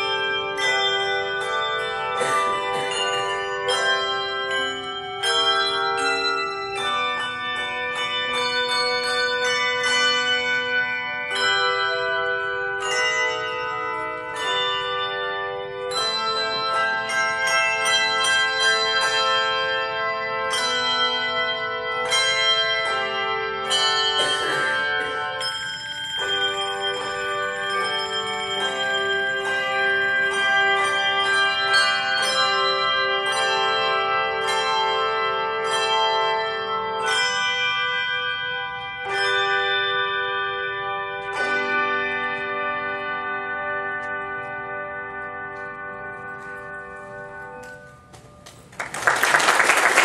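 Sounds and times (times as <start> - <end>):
handbell choir ringing chords: 0.0 - 50.0.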